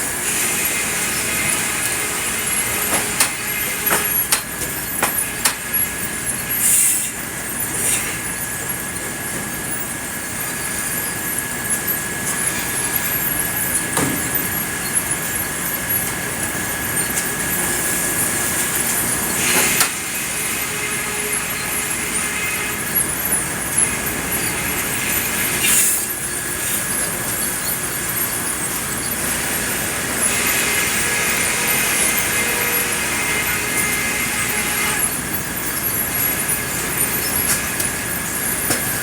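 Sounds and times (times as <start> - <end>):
sawmill machinery cutting wood: 0.0 - 39.0.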